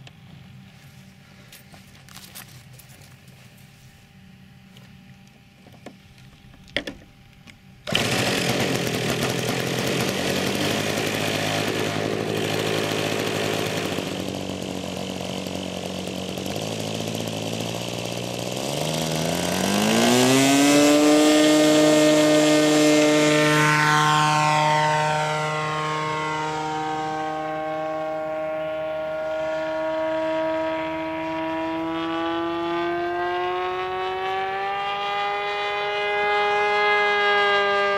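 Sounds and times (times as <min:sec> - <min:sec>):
model airplane engine running: 0:05.2 - 0:37.9.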